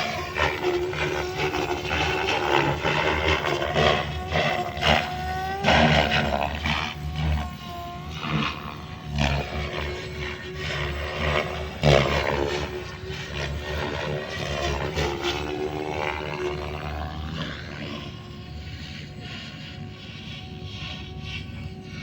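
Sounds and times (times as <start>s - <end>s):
rc helicopter rotor whine: 0.0s - 22.0s.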